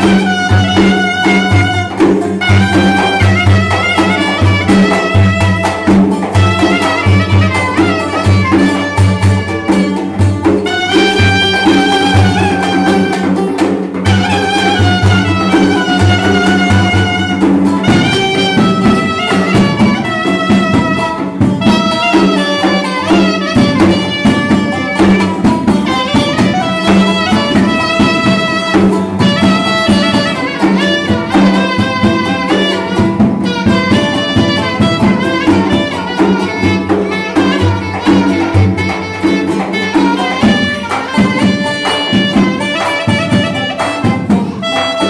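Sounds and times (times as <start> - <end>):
clarinet melody: 0.0 - 45.0
frame drum beats: 0.0 - 45.0
lute strumming: 0.0 - 45.0.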